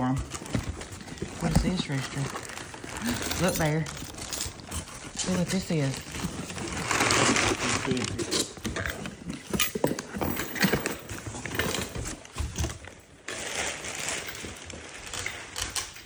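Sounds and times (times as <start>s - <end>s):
monkey handling cardboard and tube: 0.0s - 13.0s.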